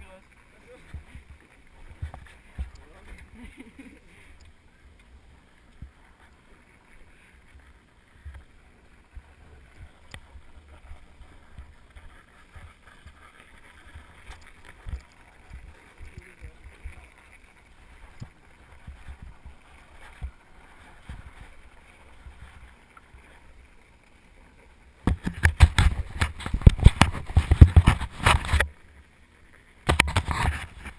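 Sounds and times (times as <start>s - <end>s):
small scrapes and clicks: 0.2s - 30.9s.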